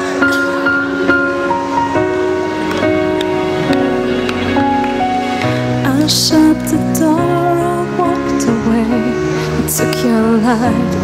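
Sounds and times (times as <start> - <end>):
sustained keyboard chords: 0.0 - 11.0.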